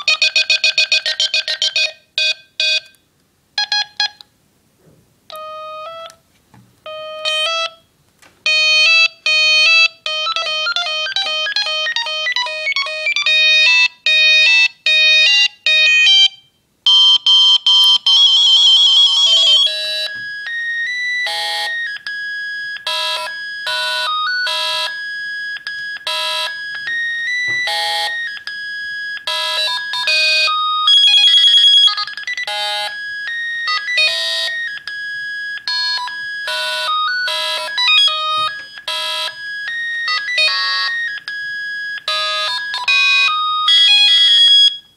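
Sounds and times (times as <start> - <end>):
electronic phone ringtone melodies: 0.0 - 3.0, 3.6 - 4.2, 5.3 - 6.2, 6.9 - 44.9.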